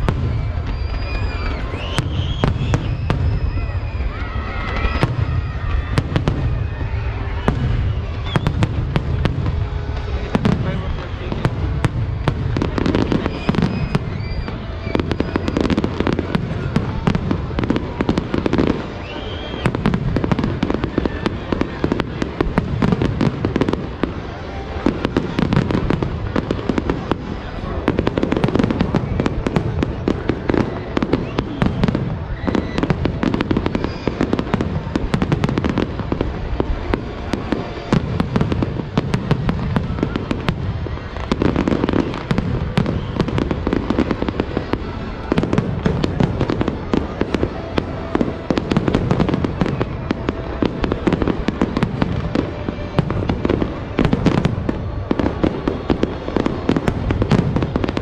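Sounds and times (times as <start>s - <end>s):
firework bangs and crackles: 0.0s - 58.0s.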